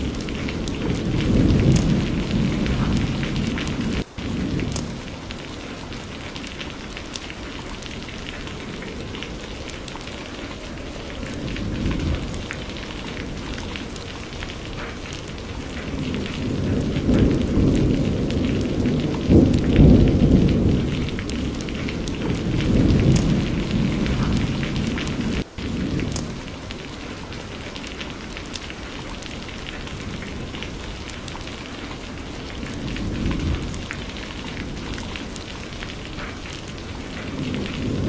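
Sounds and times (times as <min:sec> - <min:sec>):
distant thunder rumble: 0:00.0 - 0:38.0
steady rain with ticking drops: 0:00.0 - 0:38.0.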